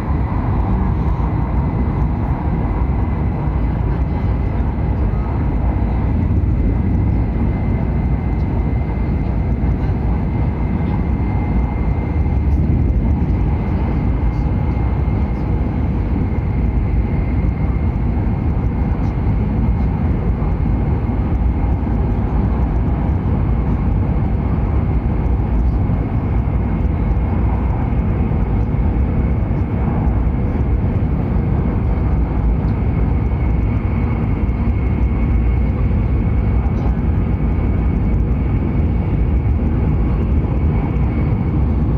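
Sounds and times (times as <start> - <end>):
thin steady whine: 0.0 - 41.9
train running rumble: 0.0 - 41.9.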